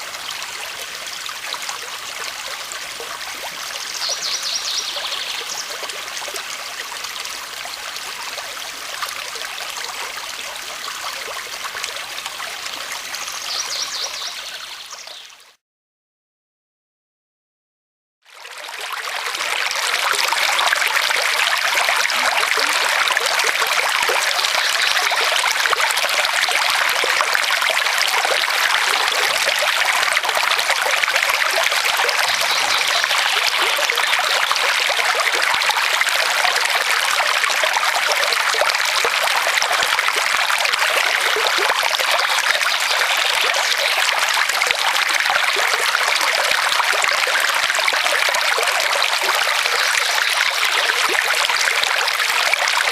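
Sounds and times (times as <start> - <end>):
brook babbling: 0.0 - 15.6, 18.3 - 52.9.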